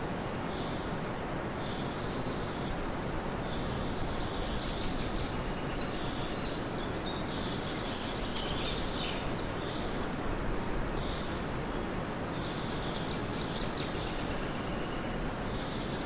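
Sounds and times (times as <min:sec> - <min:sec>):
rushing hiss of outdoor ambience: 0:00.0 - 0:16.0
birds chirping and twittering: 0:01.6 - 0:16.0.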